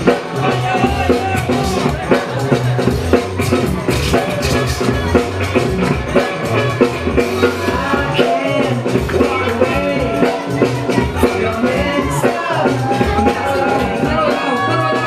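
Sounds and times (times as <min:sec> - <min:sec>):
music with drum-kit beat: 0:00.0 - 0:15.0.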